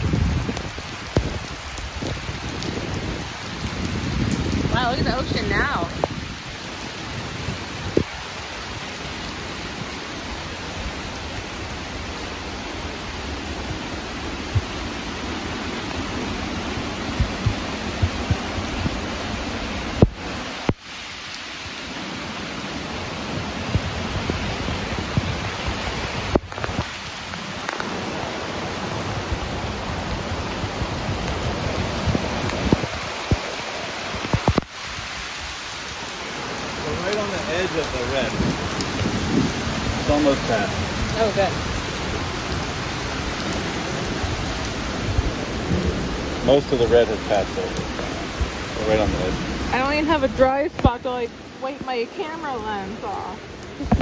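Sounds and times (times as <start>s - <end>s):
wind buffeting microphone: 0.0s - 20.7s, 23.0s - 35.8s, 36.5s - 54.0s
heavy rain hissing: 0.0s - 54.0s.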